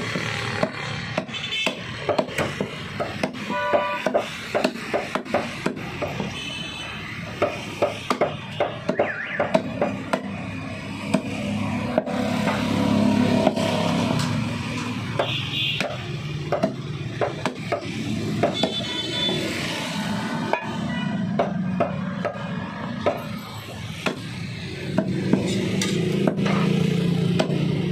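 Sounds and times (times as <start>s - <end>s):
cleaver chopping meat on wood: 0.0s - 6.3s, 7.3s - 14.4s, 15.0s - 19.5s, 21.3s - 23.4s, 24.0s - 27.9s.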